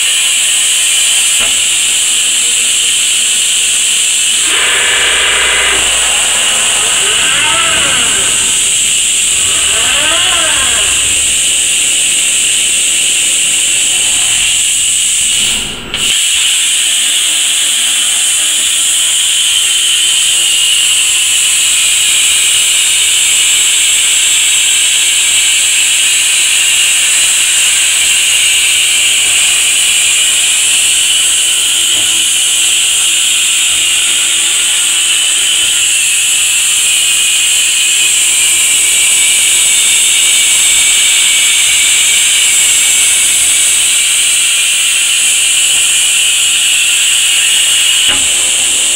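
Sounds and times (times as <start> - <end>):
plasma torch hissing: 0.0 - 48.9
robot motor whines: 0.0 - 48.9.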